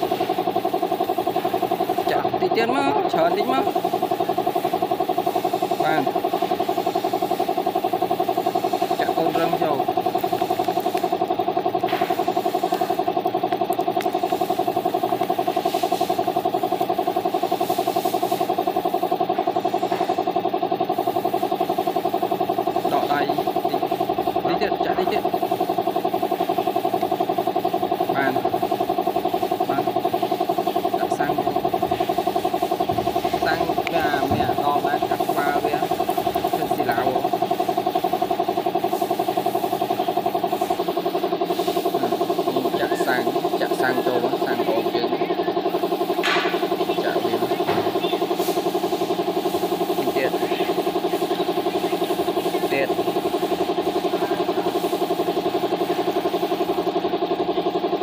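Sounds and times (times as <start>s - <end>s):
motor humming: 0.0s - 58.0s
small engine idling: 0.0s - 58.0s.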